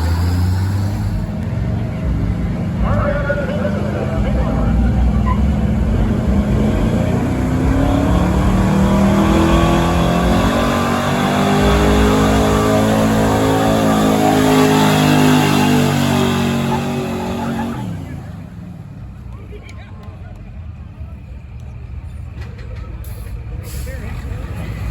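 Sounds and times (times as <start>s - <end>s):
truck engine at high revs: 0.0s - 19.4s, 22.9s - 24.9s.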